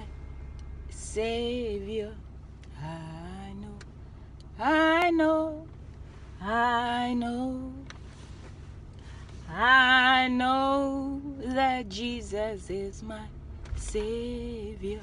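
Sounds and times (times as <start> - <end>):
woman singing gospel: 0.0 - 5.8, 6.4 - 8.0, 9.4 - 15.0
car cabin rumble: 0.0 - 15.0.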